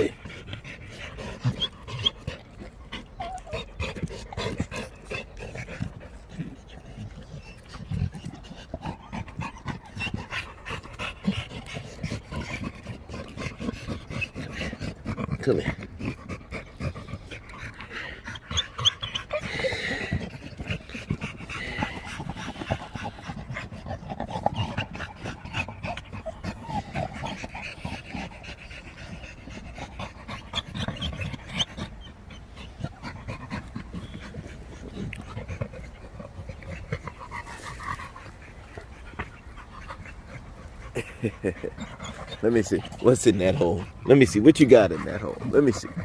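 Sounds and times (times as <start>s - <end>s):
dogs panting hard: 0.0s - 46.0s.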